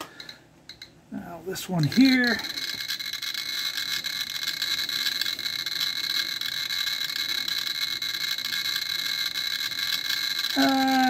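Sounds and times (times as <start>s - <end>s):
geiger counter crackle: 1.6s - 11.0s
steady high-pitched tone: 1.7s - 11.0s.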